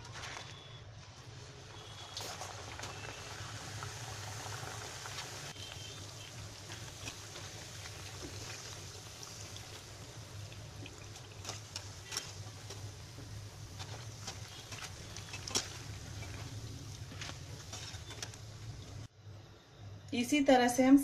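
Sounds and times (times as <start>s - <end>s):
oil sizzling and bubbling: 0.0s - 20.0s.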